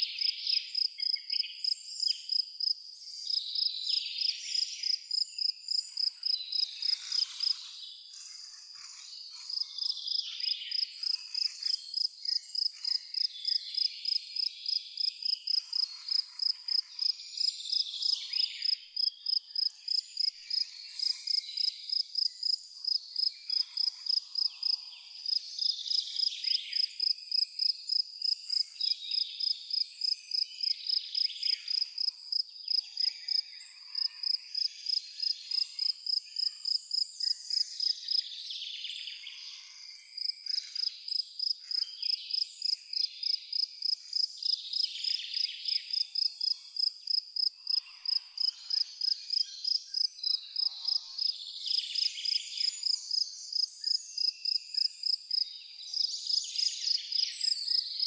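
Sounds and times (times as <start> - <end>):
cricket chirping: 0.0 - 38.3, 39.4 - 58.0.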